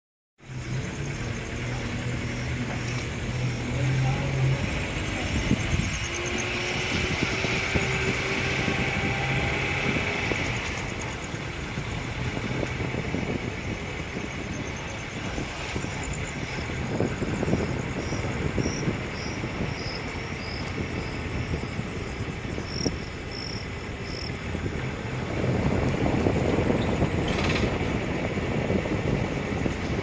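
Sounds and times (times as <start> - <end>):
passing traffic rumble: 0.4 - 30.0.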